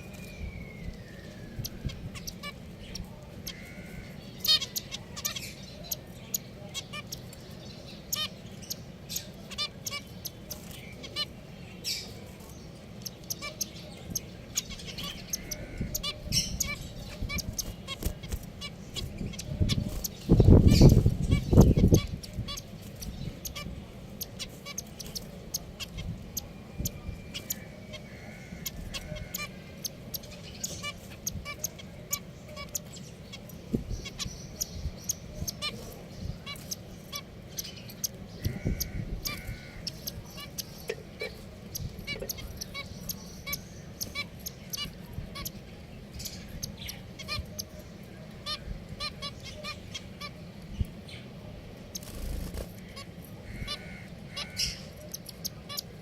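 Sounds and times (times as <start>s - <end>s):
finches chirping and calling: 0.0s - 56.0s.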